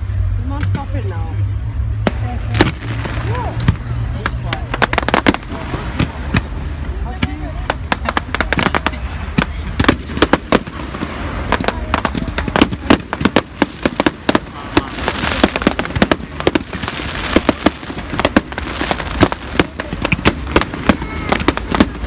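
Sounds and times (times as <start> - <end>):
fireworks crackling: 0.0 - 22.0
fireworks bangs and pops: 2.0 - 22.0.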